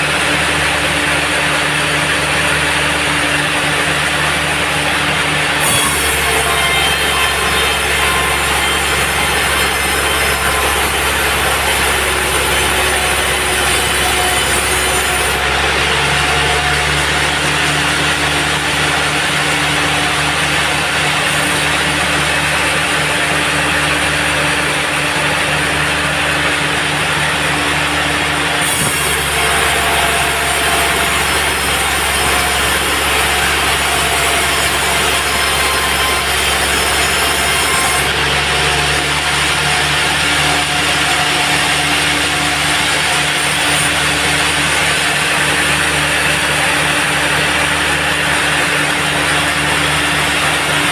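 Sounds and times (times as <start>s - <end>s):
band saw cutting log: 0.0s - 50.9s
motor hum: 0.0s - 50.9s.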